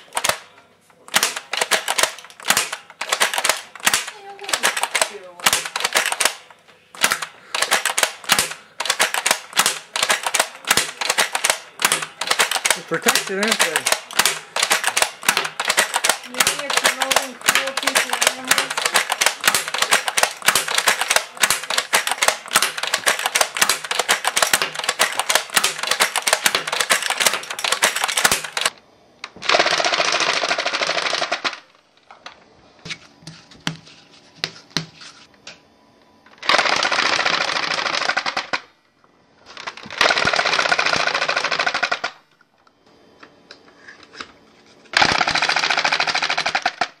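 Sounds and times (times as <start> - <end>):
motorized dart gun firing: 0.0 - 31.6, 36.4 - 38.7, 39.6 - 42.2, 44.9 - 47.0.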